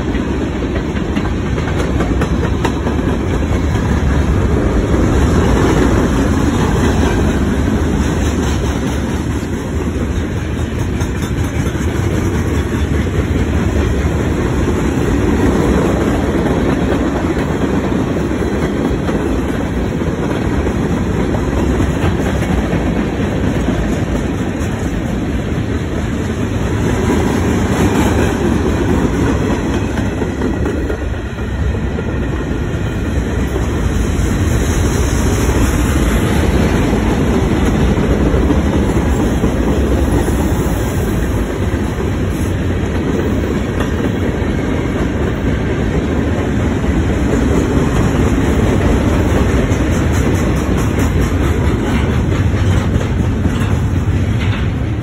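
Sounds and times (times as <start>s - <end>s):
wheels clicking over rail joints: 0.0s - 32.1s, 33.4s - 55.0s
steel wheels rumbling on rails: 0.0s - 55.0s.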